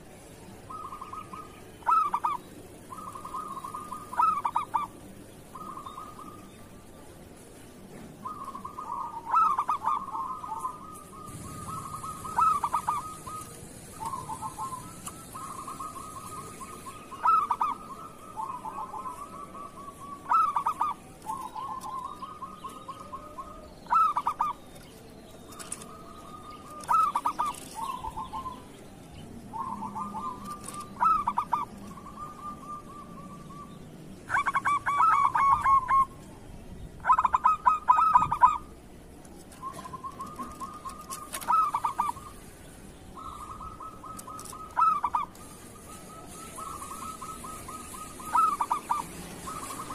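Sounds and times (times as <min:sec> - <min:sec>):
dove cooing: 0:00.0 - 0:06.7, 0:07.9 - 0:28.8, 0:29.4 - 0:36.4, 0:37.0 - 0:49.9.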